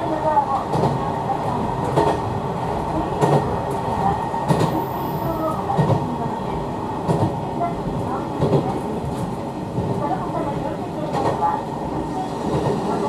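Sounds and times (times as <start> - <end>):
railcar wheels rumbling: 0.0 - 13.0.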